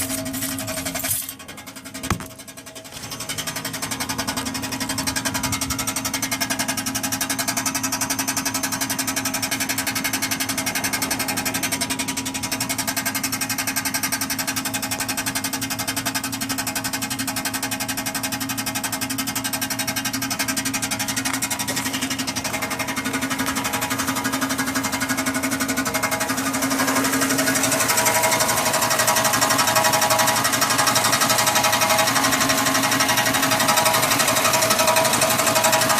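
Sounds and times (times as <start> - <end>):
fast rattling under car: 0.0 - 35.9
low engine hum: 0.0 - 35.9.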